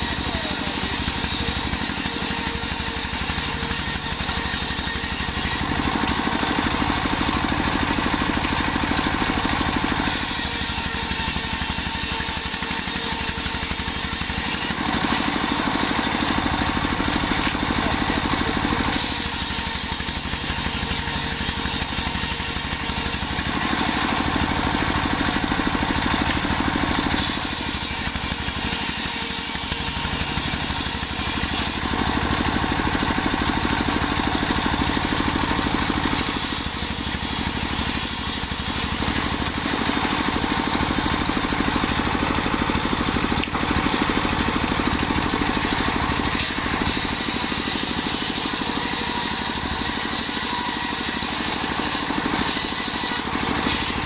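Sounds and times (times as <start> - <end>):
circular saw cutting wood: 0.0 - 54.0
diesel engine running: 0.0 - 54.0.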